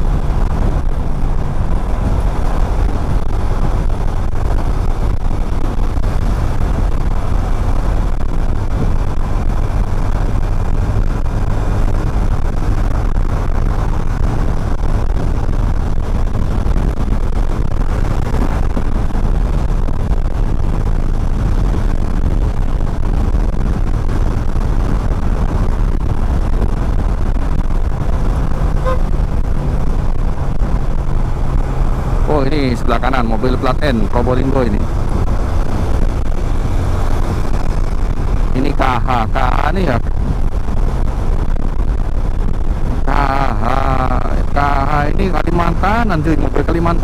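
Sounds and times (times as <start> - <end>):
motorcycle engine: 0.0 - 47.0
tyre noise on road: 0.0 - 47.0
wind rushing on microphone: 0.0 - 47.0.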